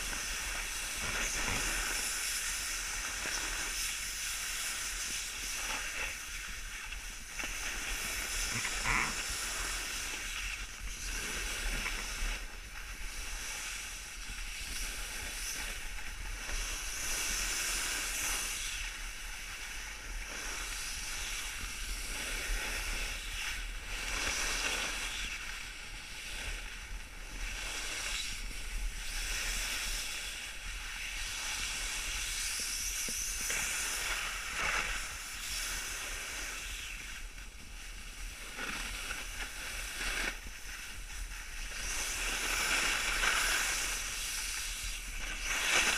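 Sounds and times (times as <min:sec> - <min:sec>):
skis scraping on snow: 0:00.0 - 0:45.9.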